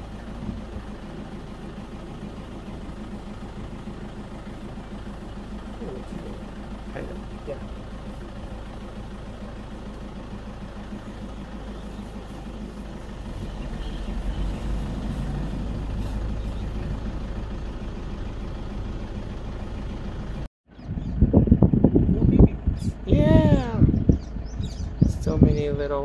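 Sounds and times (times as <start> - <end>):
jeep engine running: 0.0 - 26.0.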